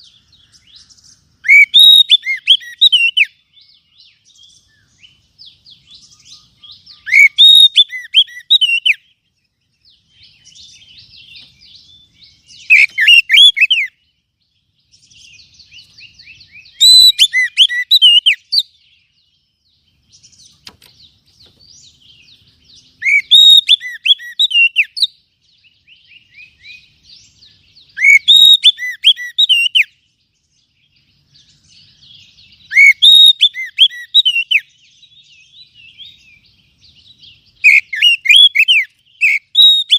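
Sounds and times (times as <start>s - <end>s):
soft bird twittering: 0.0s - 39.9s
songbird singing sweeping phrases: 0.0s - 39.9s.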